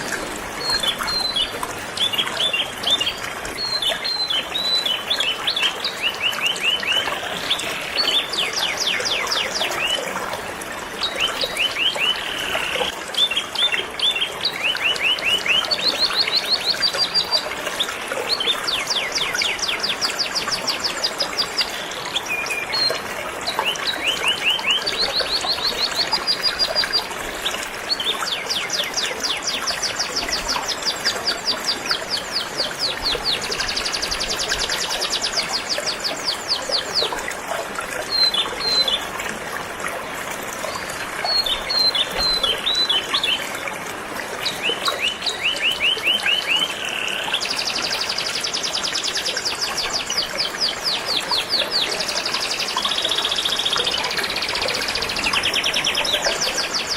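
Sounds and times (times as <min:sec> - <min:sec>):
flowing river water: 0:00.0 - 0:56.9.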